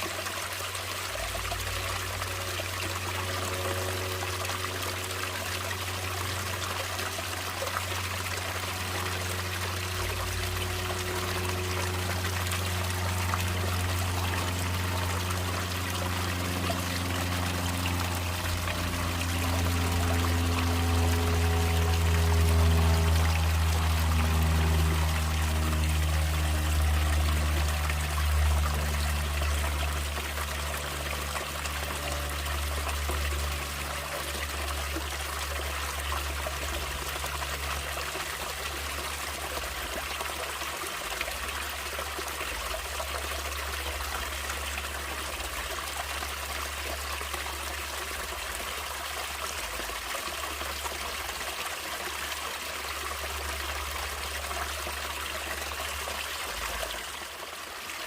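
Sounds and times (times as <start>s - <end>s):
low sustained music: 0.0s - 49.6s
stream water trickling: 0.0s - 58.0s.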